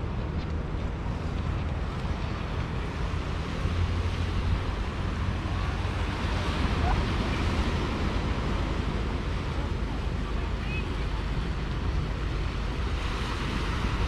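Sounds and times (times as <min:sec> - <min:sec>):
sea surf breaking: 0:00.0 - 0:14.0
wind rumbling on microphone: 0:00.0 - 0:14.0.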